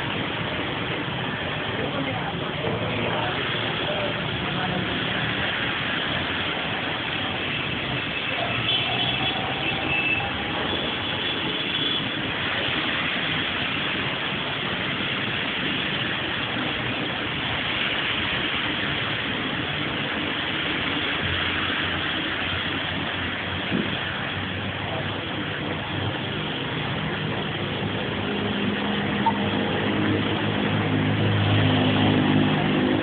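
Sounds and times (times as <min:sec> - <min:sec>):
rain falling steadily: 0:00.0 - 0:33.0.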